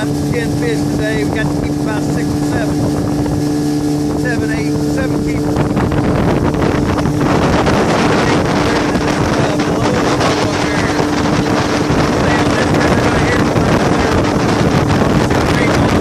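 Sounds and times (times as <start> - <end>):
motorboat engine drone: 0.0 - 16.0
water rushing past hull: 0.0 - 16.0
wind noise on microphone: 0.0 - 16.0.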